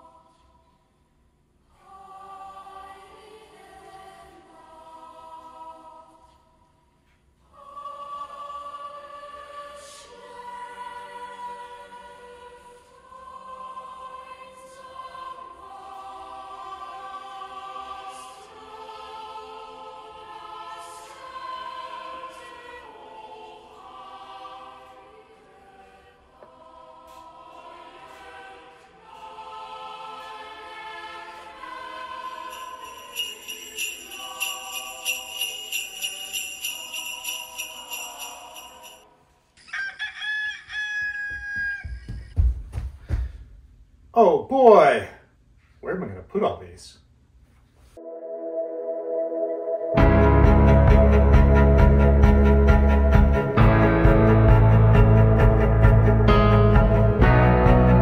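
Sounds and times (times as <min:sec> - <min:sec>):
choir singing held chords: 0:00.0 - 0:00.8, 0:01.7 - 0:06.7, 0:07.4 - 0:39.3, 0:48.0 - 0:58.0.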